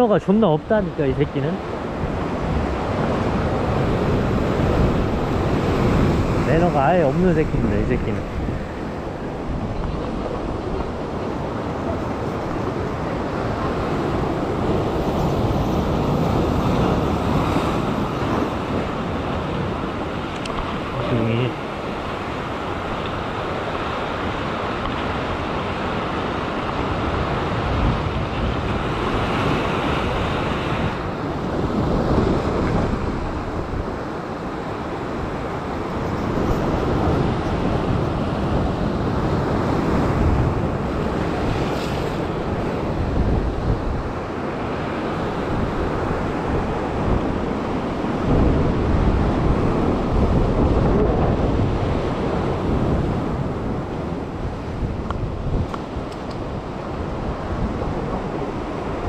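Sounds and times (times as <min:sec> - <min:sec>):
ocean surf breaking on rocks: 0:00.0 - 0:59.0
wind buffeting microphone: 0:00.6 - 0:59.0.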